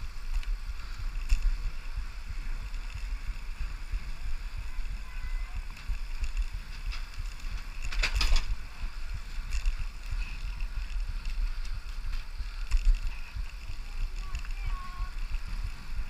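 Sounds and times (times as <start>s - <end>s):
bicycle rattles and clicks: 0.0s - 16.0s
wind rumbling on microphone: 0.0s - 16.0s.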